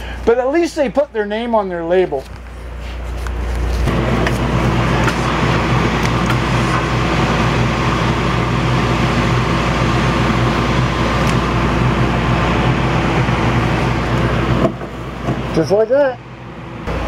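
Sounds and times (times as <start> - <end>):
exhaust fan motor hum: 0.0 - 17.0.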